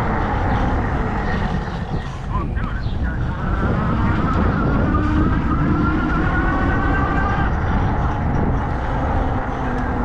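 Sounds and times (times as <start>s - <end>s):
road rumble: 0.0s - 10.0s
wind noise: 0.0s - 10.0s.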